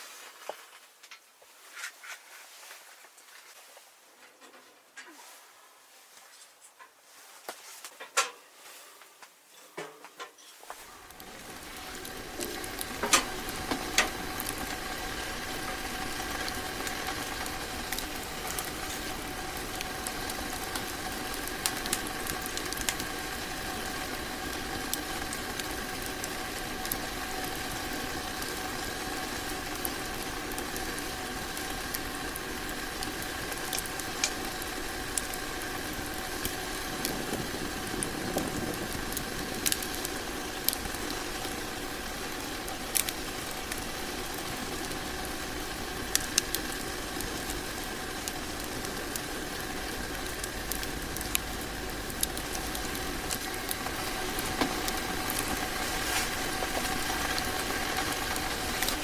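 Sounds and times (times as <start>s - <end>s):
faint steady hum: 8.1s - 59.0s
steady cooking hiss: 10.6s - 59.0s
sharp crackles and clicks: 10.8s - 59.0s.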